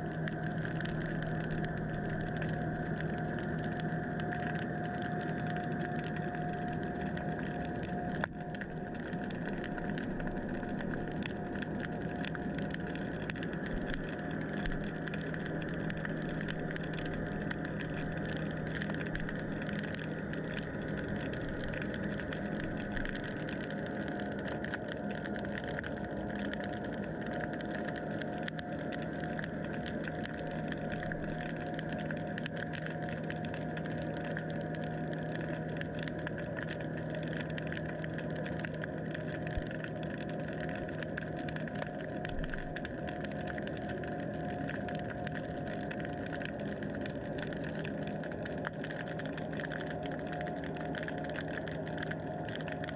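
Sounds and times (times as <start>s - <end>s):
fine crackle: 0.0s - 52.9s
underwater mechanical drone: 0.0s - 52.9s.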